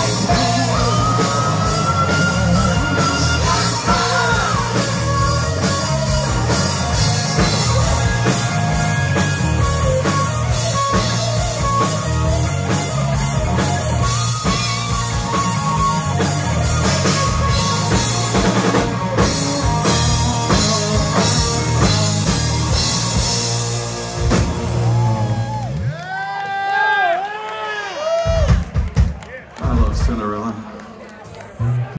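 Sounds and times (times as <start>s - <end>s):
electric guitar lead held notes: 0.0s - 25.9s
live rock band playing: 0.0s - 26.0s, 28.2s - 30.3s.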